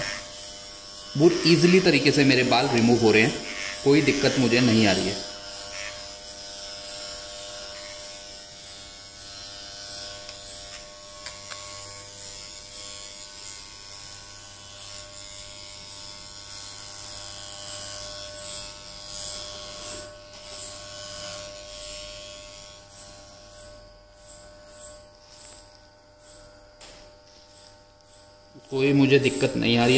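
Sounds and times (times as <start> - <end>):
electric hair trimmer buzzing: 0.0 - 29.9.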